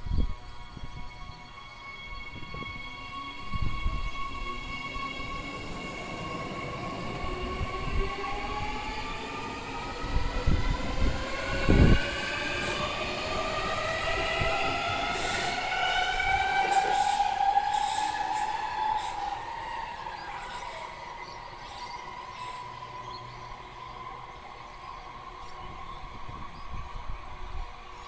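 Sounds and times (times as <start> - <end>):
electric train motors whining: 0.4 - 27.1.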